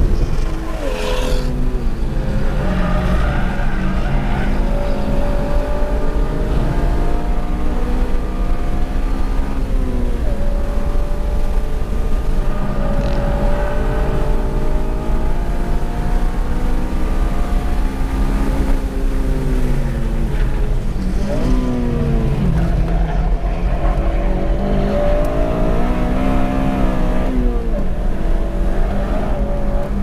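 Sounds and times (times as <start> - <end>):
car engine revving: 0.0 - 30.0
wind and road noise: 0.0 - 30.0.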